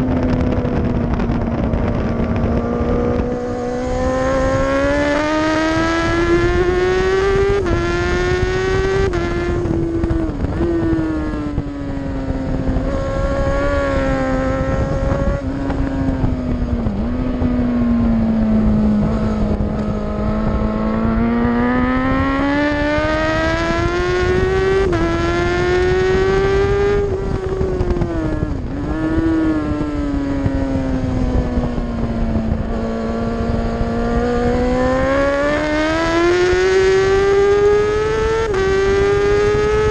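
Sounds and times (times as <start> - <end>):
superbike engine accelerating: 0.0 - 39.9
wind noise: 0.0 - 39.9.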